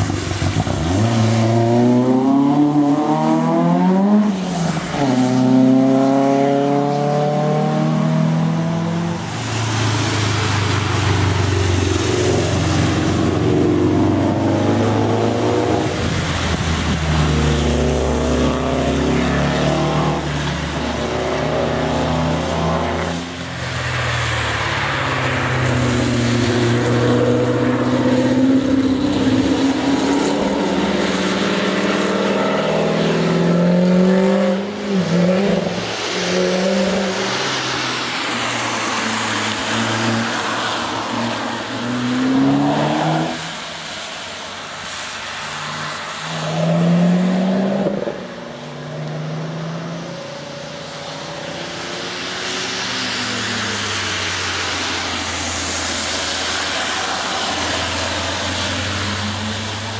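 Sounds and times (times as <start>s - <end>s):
race cars accelerating past: 0.0s - 59.9s
tyres hissing on wet track: 0.0s - 59.9s.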